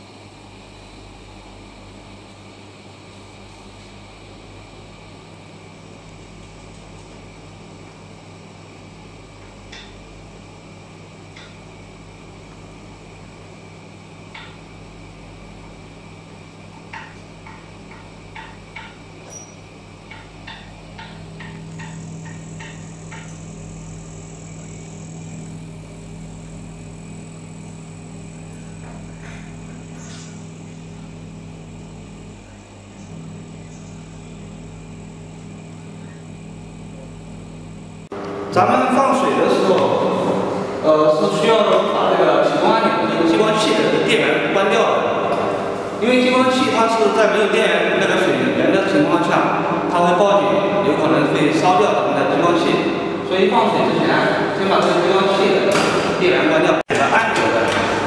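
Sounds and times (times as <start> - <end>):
electric pump hum: 0.0 - 58.0.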